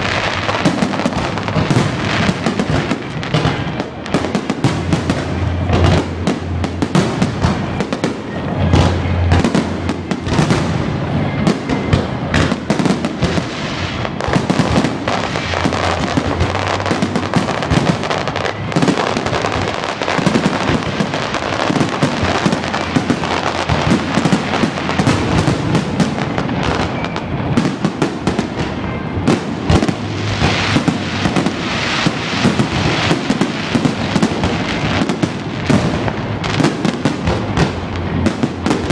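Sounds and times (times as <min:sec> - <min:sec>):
deep fireworks booms: 0:00.0 - 0:38.9
fireworks bangs and crackling: 0:00.0 - 0:38.9.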